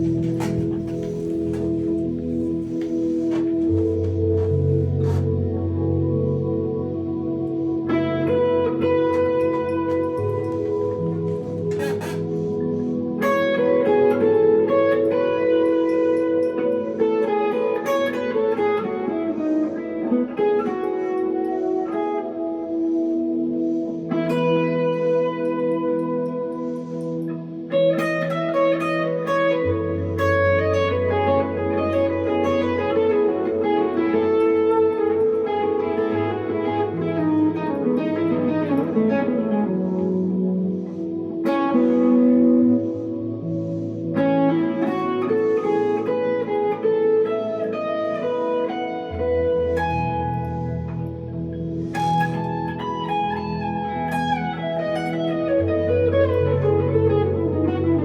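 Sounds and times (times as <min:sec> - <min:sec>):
electric guitar with delay and reverb: 0:00.0 - 0:58.0.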